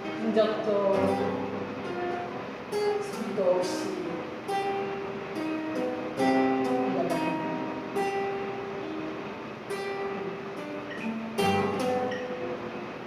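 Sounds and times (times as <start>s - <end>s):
plucked guitar notes: 0.0s - 13.0s.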